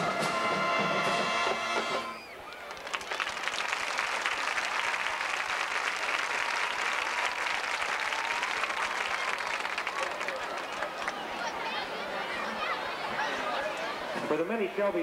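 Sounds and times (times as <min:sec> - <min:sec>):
crowd applauding: 0:00.8 - 0:14.2.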